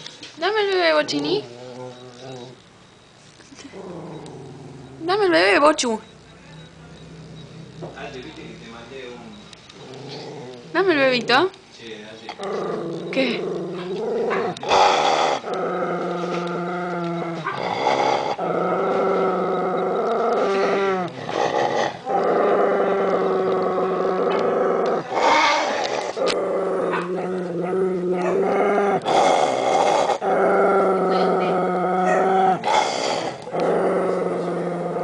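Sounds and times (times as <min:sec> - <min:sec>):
dog growling: 0:00.6 - 0:02.7, 0:03.5 - 0:06.0, 0:06.6 - 0:11.6, 0:12.2 - 0:35.0.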